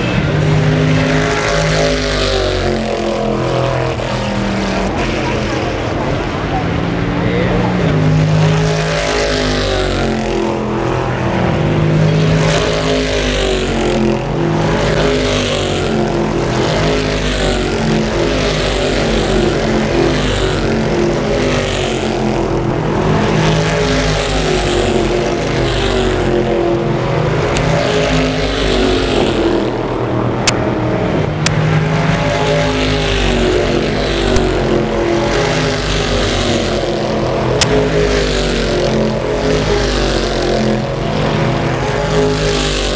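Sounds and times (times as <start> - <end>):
race car engines passing: 0.0 - 42.9.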